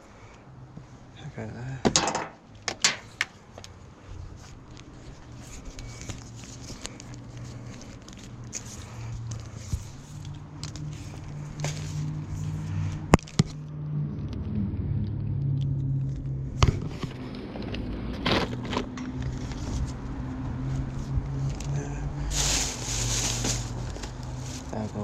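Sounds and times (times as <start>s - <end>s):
engine humming: 1.6s - 25.0s.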